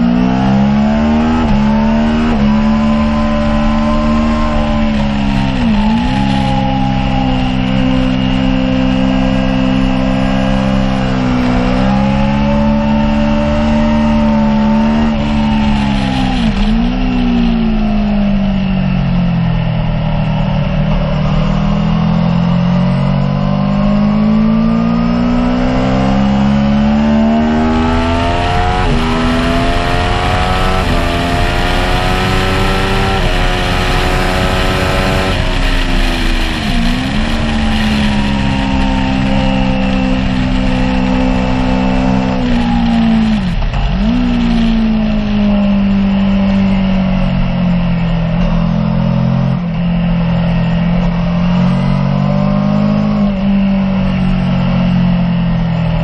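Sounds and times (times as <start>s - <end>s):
motorcycle engine running: 0.0s - 56.0s
quick gear upshifts: 0.0s - 56.0s
wind noise: 0.0s - 56.0s.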